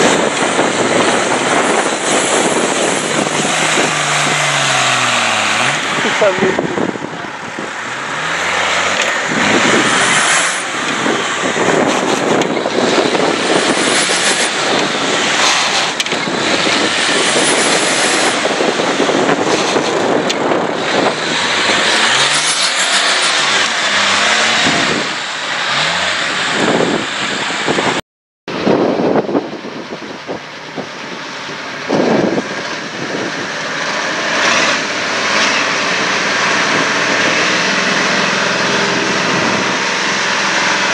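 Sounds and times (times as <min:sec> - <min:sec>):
diesel engine revving: 0:00.0 - 0:40.9
rushing noise: 0:00.0 - 0:40.9.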